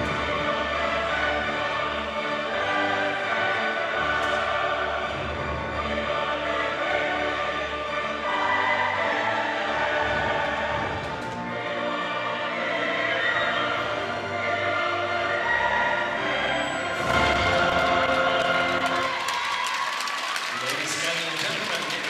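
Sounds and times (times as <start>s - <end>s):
choir singing: 0.0s - 20.4s
orchestral music: 0.0s - 22.0s.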